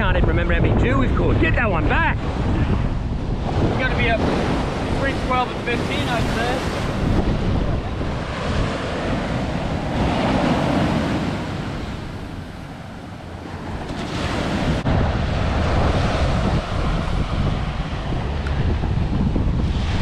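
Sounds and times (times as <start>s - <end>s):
wind buffeting microphone: 0.0s - 20.0s
ocean surf breaking: 0.9s - 20.0s.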